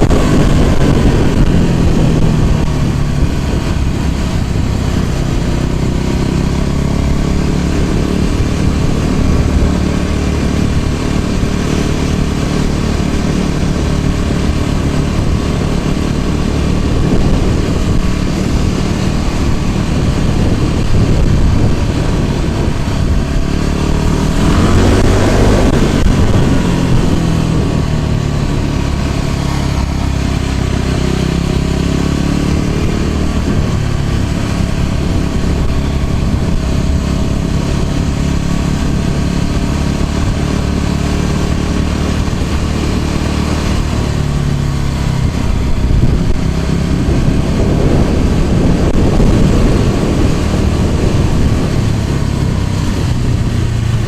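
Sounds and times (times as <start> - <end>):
low rumble on microphone: 0.0 - 54.0
scooter engine running: 0.0 - 54.0
vehicle passing: 0.0 - 54.0.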